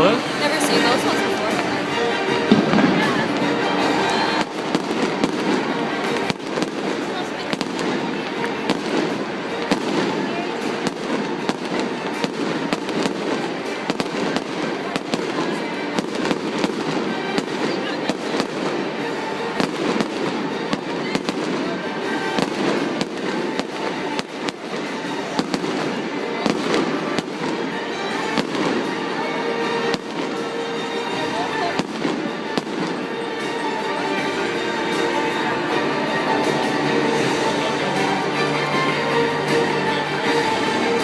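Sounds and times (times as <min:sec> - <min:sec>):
fireworks bangs: 0:00.0 - 0:41.0.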